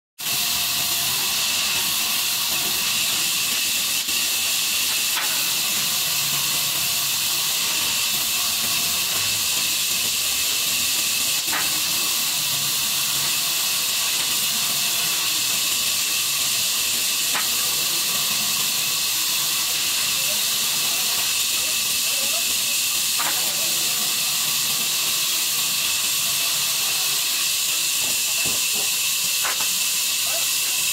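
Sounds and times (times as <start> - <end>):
band saw cutting wood: 0.2 - 30.9.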